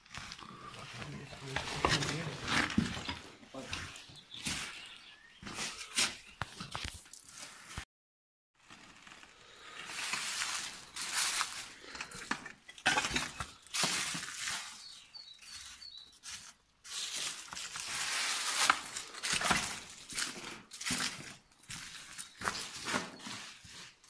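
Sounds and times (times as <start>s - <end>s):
debris crunching and scraping: 0.0s - 7.8s, 8.6s - 24.0s.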